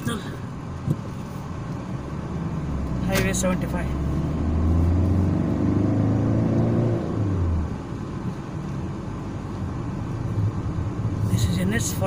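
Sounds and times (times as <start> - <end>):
car engine hum: 0.0 - 12.0
road rumble: 0.0 - 12.0.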